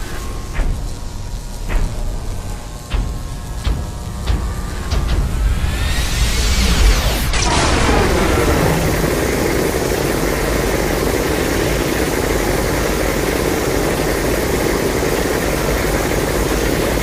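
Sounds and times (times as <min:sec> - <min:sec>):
steady monster rumbling: 0:00.0 - 0:13.7.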